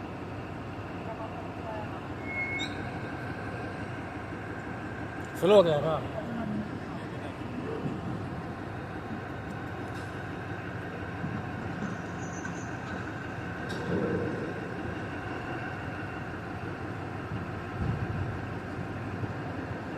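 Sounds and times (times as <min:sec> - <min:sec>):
heavy machinery humming: 0:00.0 - 0:19.9.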